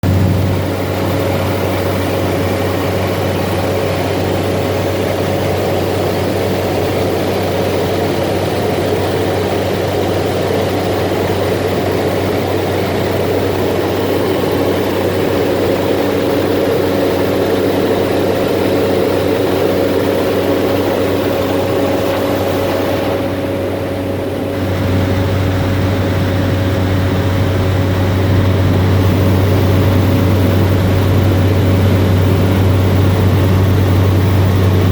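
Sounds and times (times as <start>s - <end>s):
turboprop engine droning: 0.0s - 34.9s.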